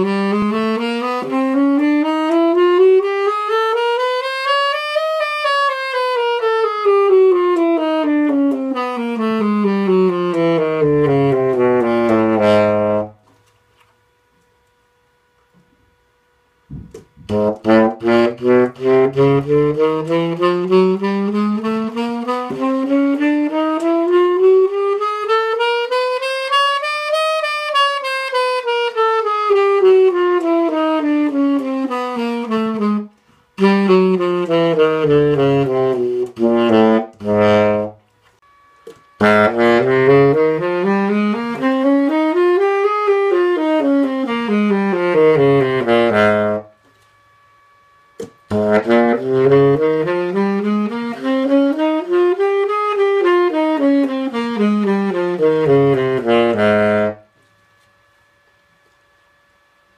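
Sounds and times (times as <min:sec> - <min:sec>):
tenor saxophone playing scales: 0:00.0 - 0:13.9, 0:16.4 - 0:59.0.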